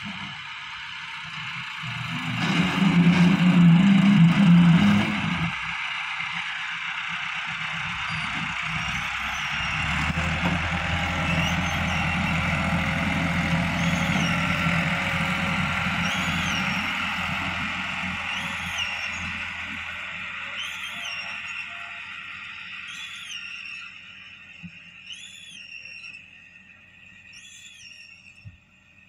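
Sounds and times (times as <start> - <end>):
tractor diesel engine under load: 0.0 - 28.8.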